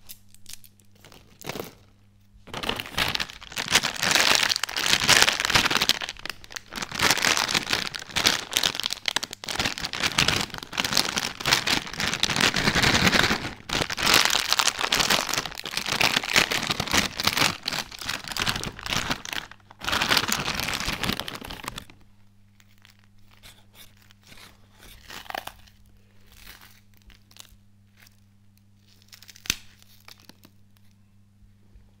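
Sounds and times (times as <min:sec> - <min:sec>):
low steady hum: 0:00.0 - 0:32.0
snack packet crinkling and tearing: 0:02.5 - 0:31.0.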